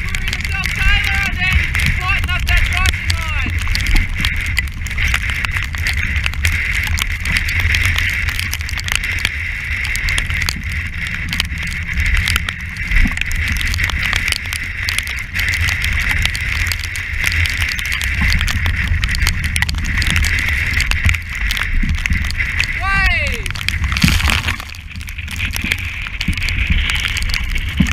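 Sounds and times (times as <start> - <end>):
strong wind buffeting microphone: 0.0 - 27.9.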